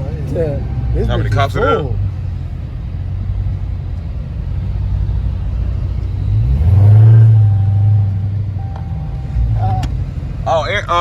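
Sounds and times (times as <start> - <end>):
car engine drone: 0.0 - 11.0
road noise: 0.0 - 11.0.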